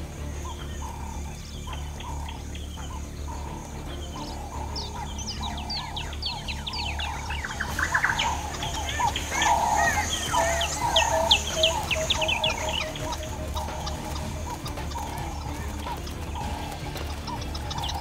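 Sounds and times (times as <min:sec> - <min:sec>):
birds chirping: 0:00.0 - 0:18.0
high insect hum: 0:00.0 - 0:18.0.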